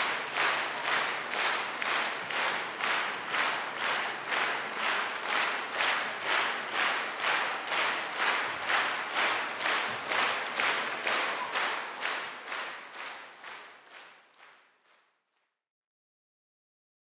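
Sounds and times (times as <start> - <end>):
audience clapping in unison: 0.0 - 15.3.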